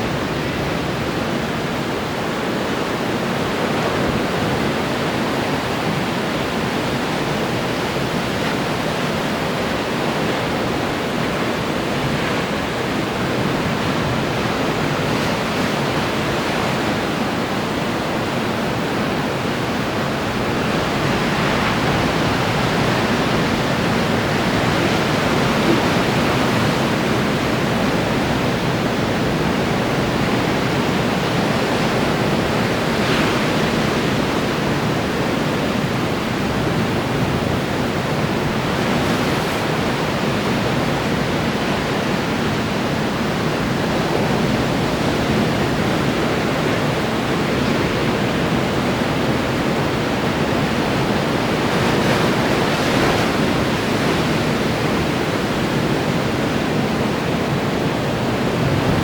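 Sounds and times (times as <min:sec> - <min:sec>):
ocean surf breaking on shore: 0:00.0 - 0:59.0.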